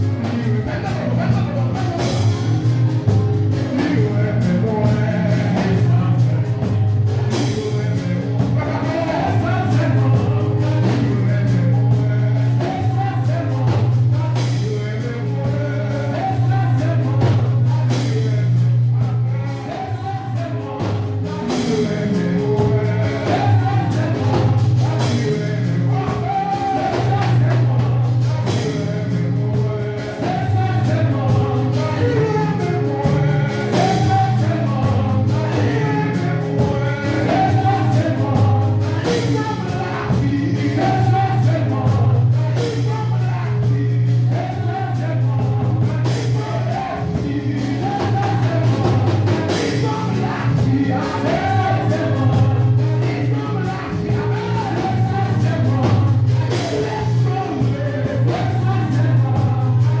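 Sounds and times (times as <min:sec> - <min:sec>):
band with bass and drums: 0:00.0 - 1:00.0
man singing into microphone: 0:00.0 - 1:00.0.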